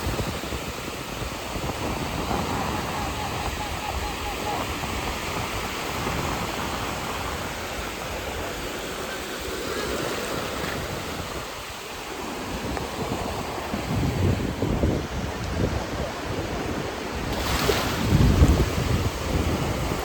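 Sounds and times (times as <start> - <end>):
sea surf washing onto beach: 0.0 - 20.0.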